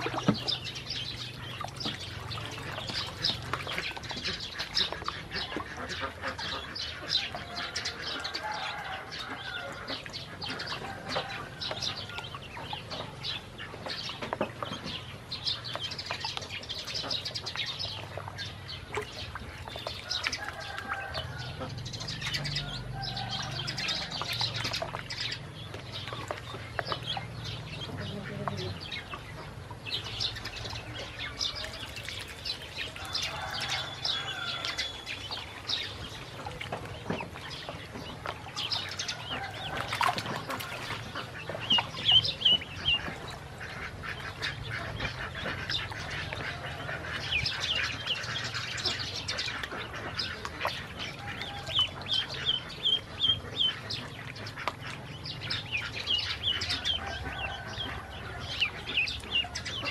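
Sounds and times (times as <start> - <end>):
ducklings peeping: 0.0 - 59.9
splashing in shallow water: 0.0 - 59.9.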